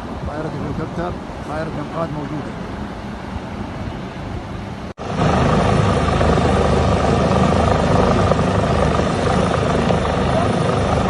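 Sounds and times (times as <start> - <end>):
helicopter rotor and turbine: 0.0 - 11.0.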